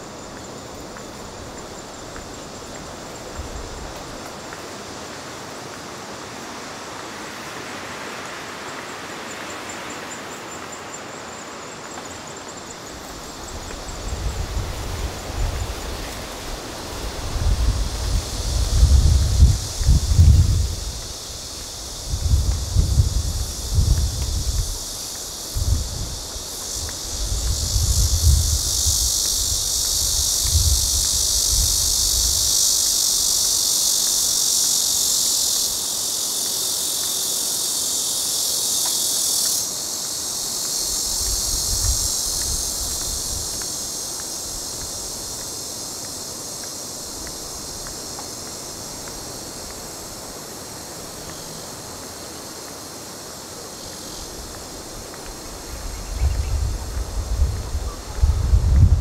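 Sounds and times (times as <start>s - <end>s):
high-pitched insect chorus: 0.0s - 59.0s.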